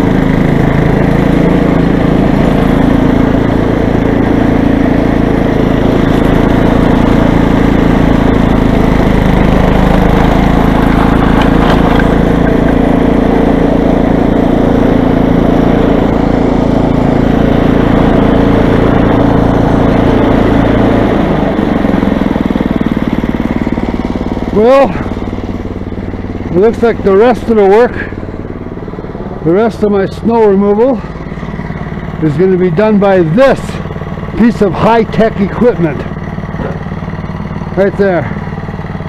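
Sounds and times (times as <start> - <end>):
snow blower engine running: 0.0 - 39.0.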